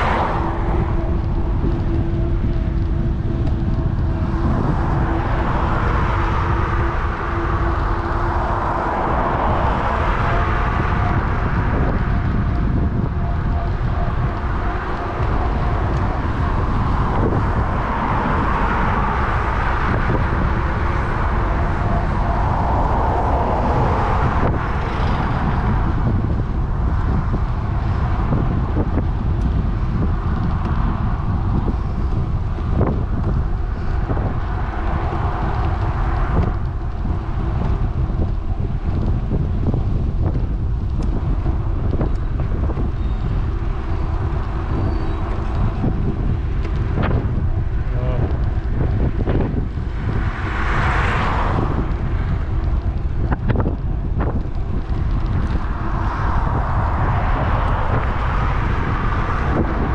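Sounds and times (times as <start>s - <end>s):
road traffic passing: 0.0s - 59.9s
wind rumbling on microphone: 0.0s - 59.9s.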